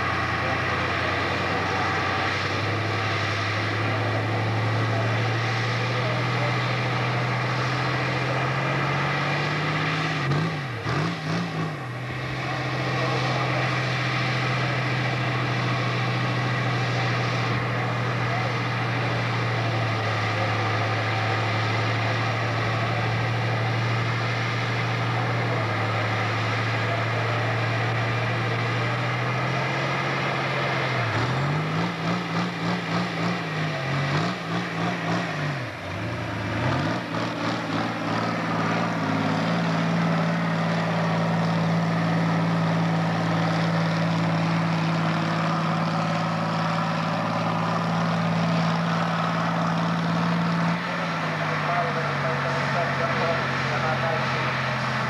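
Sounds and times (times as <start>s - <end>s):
tractor engine revving: 0.0s - 55.0s.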